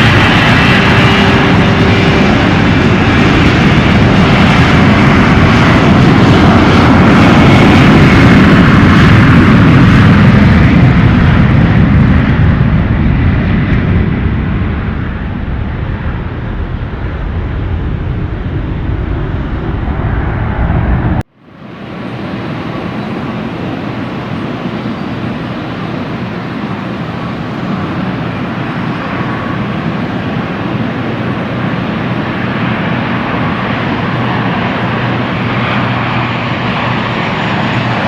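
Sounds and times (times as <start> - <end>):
airliner passing: 0.0 - 38.0.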